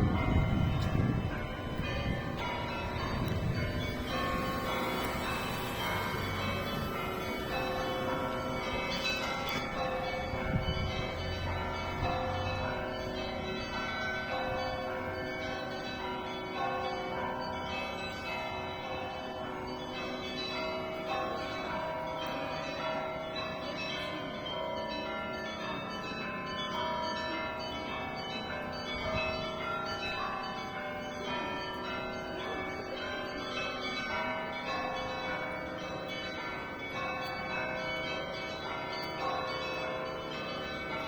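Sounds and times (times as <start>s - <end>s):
church bells pealing: 0.0s - 41.0s.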